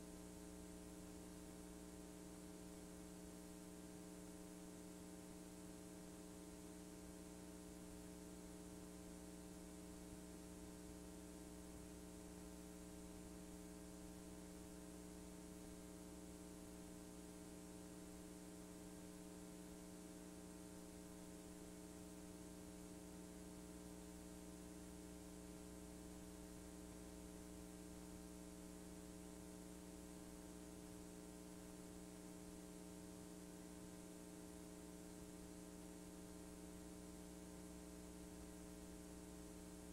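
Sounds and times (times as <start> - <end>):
faint electrical hum: 0.0 - 39.9
tape hiss: 0.0 - 39.9.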